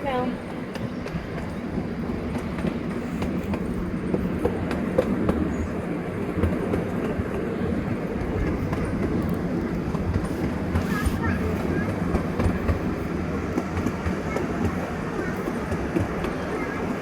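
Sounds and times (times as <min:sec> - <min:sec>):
small train rumbling: 0:00.0 - 0:17.0.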